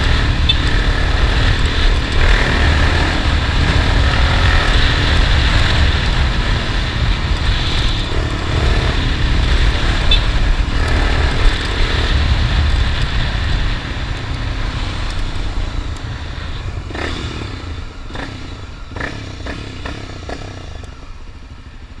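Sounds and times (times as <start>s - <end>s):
wind noise on microphone: 0.0s - 20.7s
motorcycle engine running: 0.0s - 22.0s.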